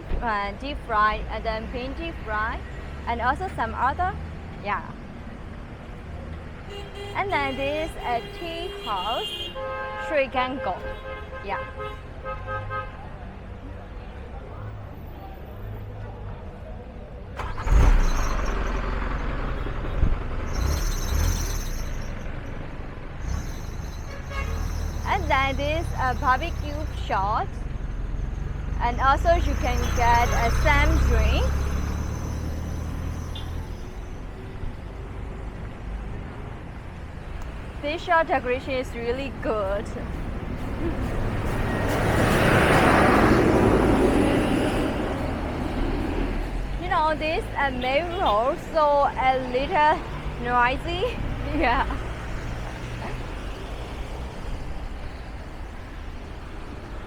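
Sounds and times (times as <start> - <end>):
low rumble of traffic: 0.0 - 57.0
vehicle engine and tyre noise: 0.0 - 57.0.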